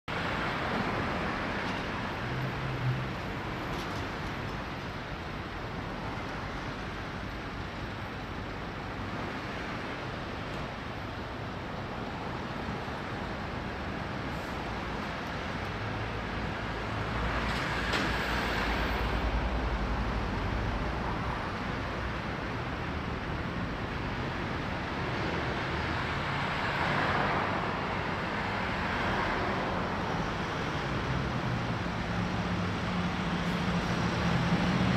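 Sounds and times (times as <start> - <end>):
street traffic: 0.1 - 34.9.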